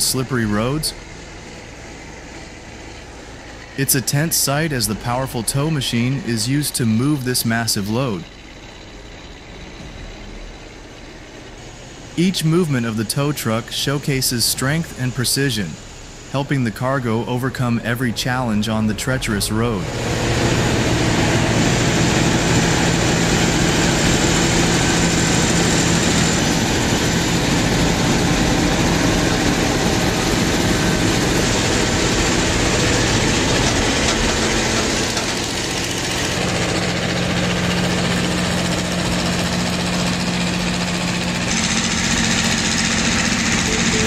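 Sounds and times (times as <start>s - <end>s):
truck engine running under load: 0.0s - 44.0s.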